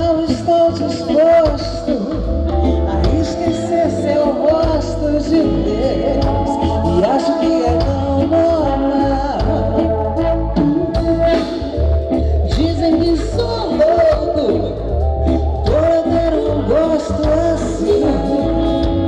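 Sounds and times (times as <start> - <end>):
woman singing: 0.0 - 11.6, 12.4 - 19.0
bass line: 0.0 - 19.0
live soul band: 0.0 - 19.0
steady drums: 0.0 - 19.0.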